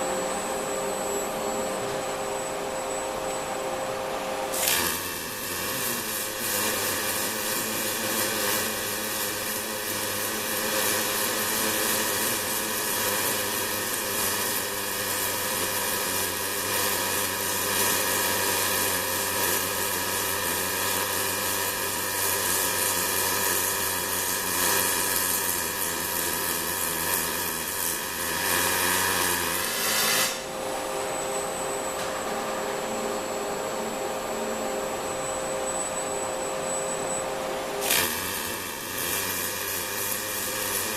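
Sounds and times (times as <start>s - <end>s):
machine hum with high whine: 0.0s - 40.9s
welding arc hissing and buzzing: 4.1s - 35.4s, 37.6s - 40.9s.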